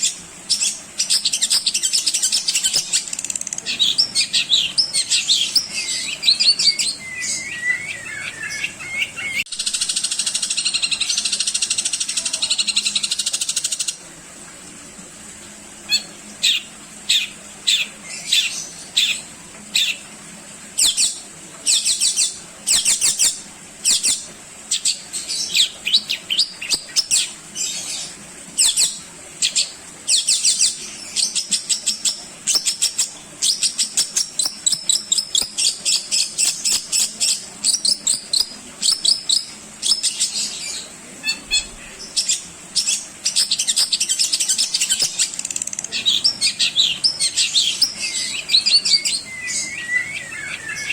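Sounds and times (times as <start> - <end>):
bird singing varied song: 0.0 - 13.9, 20.8 - 50.9.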